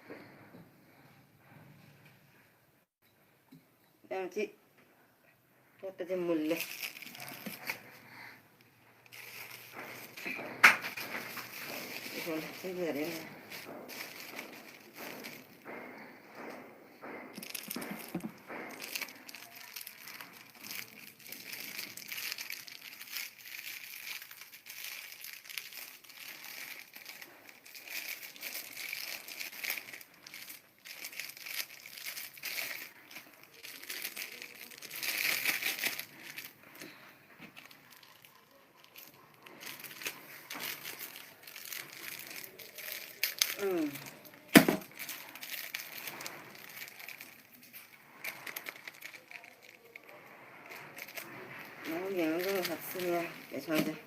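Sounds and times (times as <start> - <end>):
chewing and crunching food: 6.5 - 8.4, 9.0 - 54.0.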